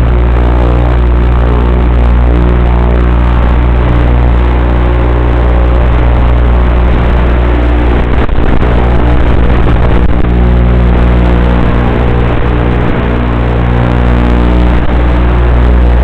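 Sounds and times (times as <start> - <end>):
model aircraft motor humming: 0.0 - 16.0
rushing air: 0.0 - 16.0.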